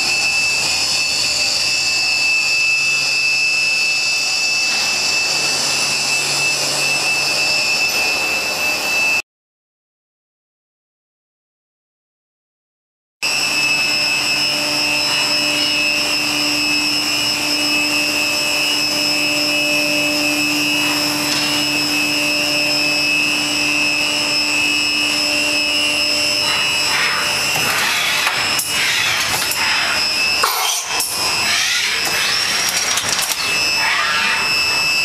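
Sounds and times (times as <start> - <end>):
machine whine over hiss: 0.0 - 9.2, 13.2 - 35.0.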